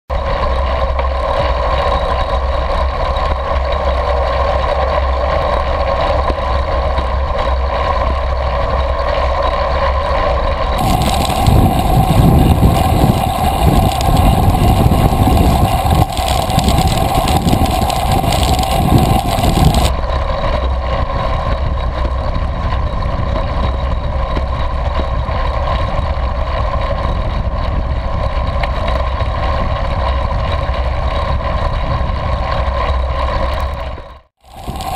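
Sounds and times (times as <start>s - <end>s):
wheels rolling hum: 0.1s - 34.9s
wind rushing over microphone: 0.2s - 34.9s.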